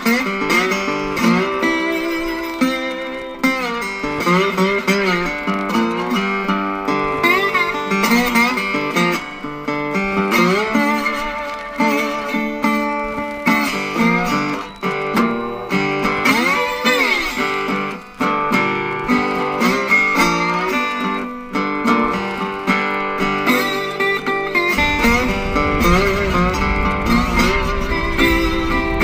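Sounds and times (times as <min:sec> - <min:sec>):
slide resonator guitar: 0:00.0 - 0:29.0.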